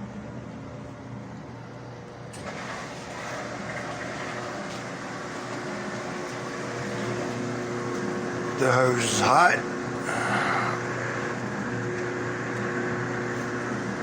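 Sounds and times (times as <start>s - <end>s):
clothes dryer running: 0.0s - 14.0s.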